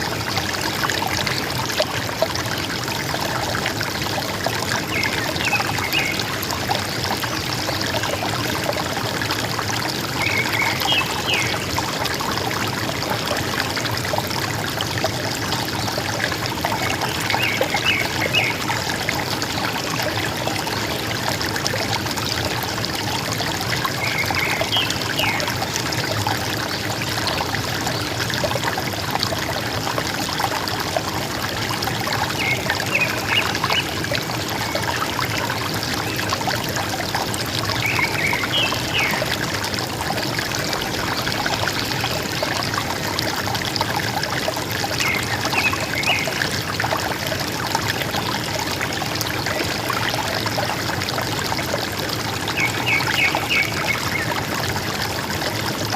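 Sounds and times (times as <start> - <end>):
river water running: 0.0 - 55.9.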